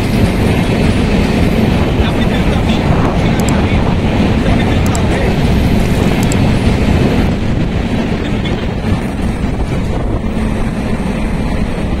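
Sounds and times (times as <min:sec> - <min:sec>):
train wheels rolling on track: 0:00.0 - 0:12.0.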